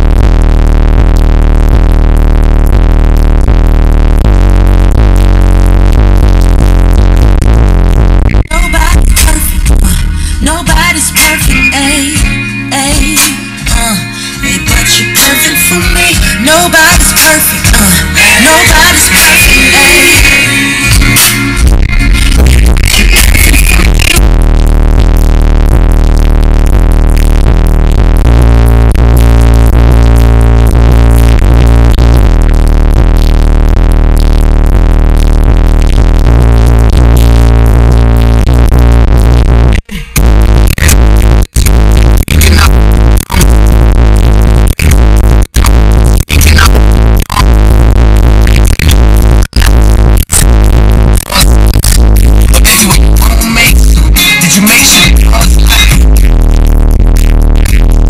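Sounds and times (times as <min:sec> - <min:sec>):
loud hip-hop music with deep bass: 0:10.7 - 0:58.0.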